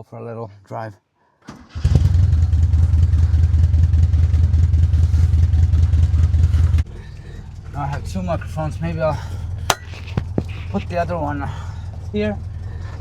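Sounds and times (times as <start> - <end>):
car engine running: 1.9 - 13.0.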